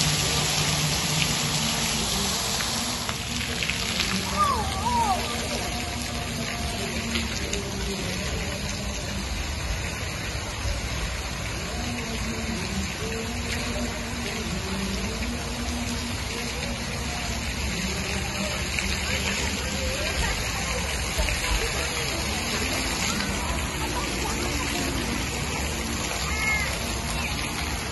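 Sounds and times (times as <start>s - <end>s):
fountain water splashing: 0.0s - 27.9s.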